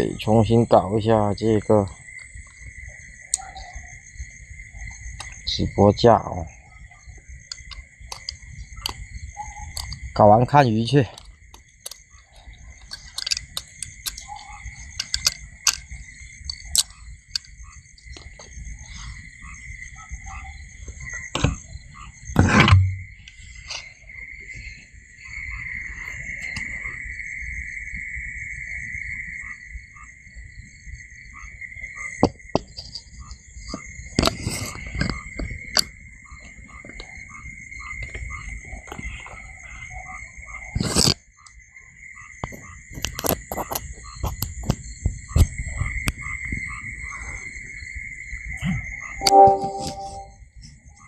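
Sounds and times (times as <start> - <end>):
insects and frogs trilling: 0.0 - 51.0.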